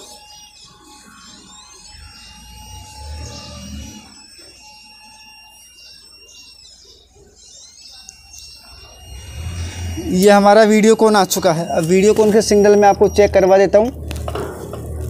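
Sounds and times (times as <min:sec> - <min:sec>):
high steady buzzer tone: 0:00.0 - 0:15.0.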